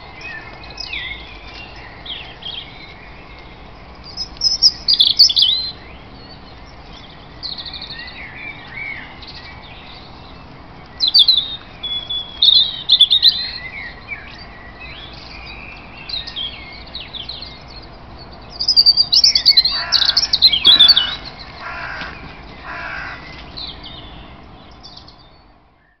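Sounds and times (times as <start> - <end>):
harsh bird calls: 0.0 - 26.0
songbirds singing: 0.0 - 26.0.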